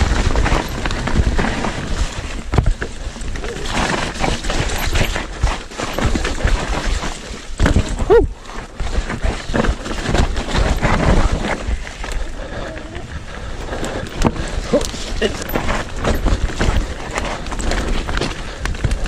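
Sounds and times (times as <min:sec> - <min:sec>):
bike rattling on rough trail: 0:00.0 - 0:19.0
tyre rumble: 0:00.0 - 0:19.0.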